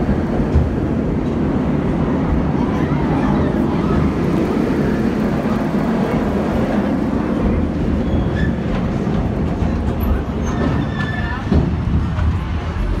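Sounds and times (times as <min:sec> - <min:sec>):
train rumbling and rattling on rails: 0:00.0 - 0:13.0.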